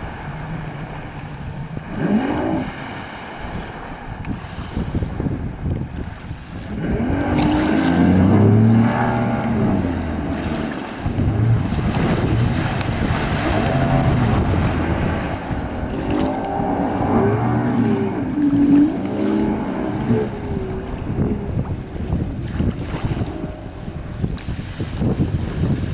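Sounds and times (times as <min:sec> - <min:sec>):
outboard motor running hard: 0:00.0 - 0:25.9
water rushing and spraying: 0:00.0 - 0:25.9.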